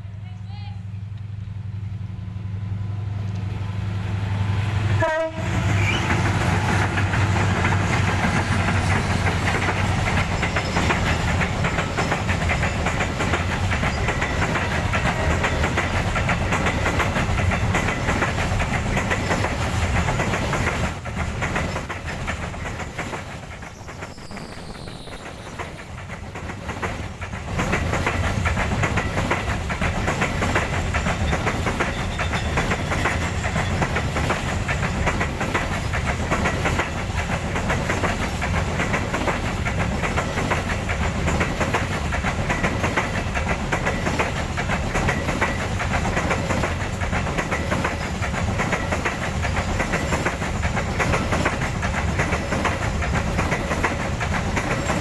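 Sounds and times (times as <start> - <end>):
freight train wheels clattering: 4.5 - 55.0.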